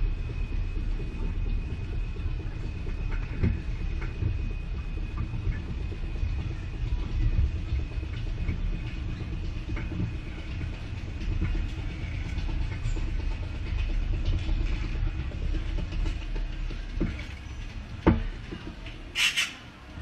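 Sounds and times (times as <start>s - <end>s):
faint high whine: 0.0s - 20.0s
roller coaster rumbling on track: 0.0s - 20.0s
light clatter: 1.1s - 19.7s.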